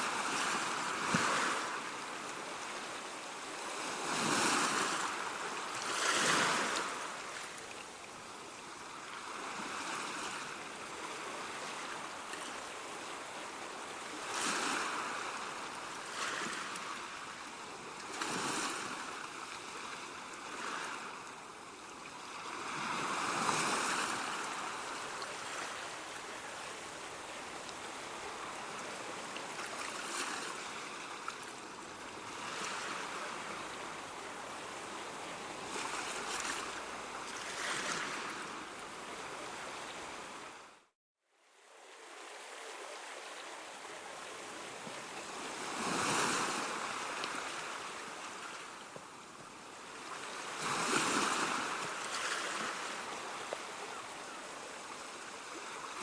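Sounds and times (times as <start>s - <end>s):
ocean waves breaking: 0.0s - 7.6s, 9.2s - 21.3s, 22.1s - 40.7s, 42.6s - 48.8s, 49.9s - 56.0s.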